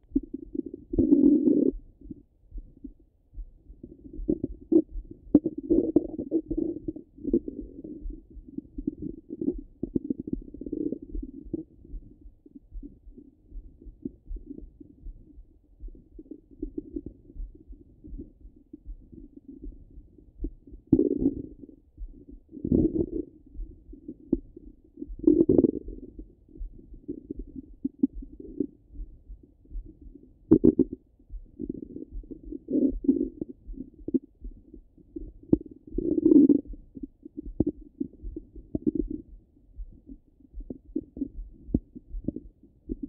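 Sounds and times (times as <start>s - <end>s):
stomach gurgling through stethoscope: 0.0s - 2.2s, 3.7s - 12.2s, 15.8s - 29.1s, 29.8s - 43.0s.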